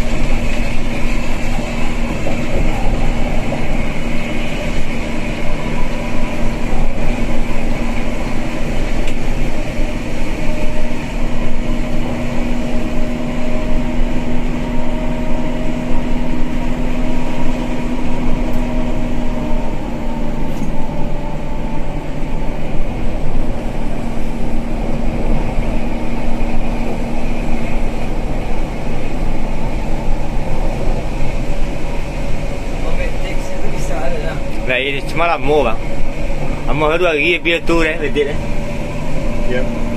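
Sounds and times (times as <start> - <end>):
coach engine and tyres drone: 0.0 - 39.9.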